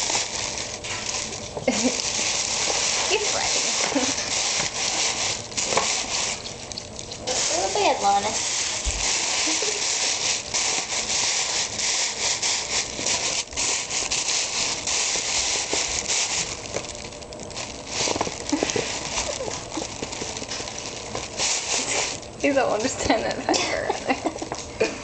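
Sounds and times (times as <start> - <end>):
paper crinkling and rustling: 0.0 - 24.7.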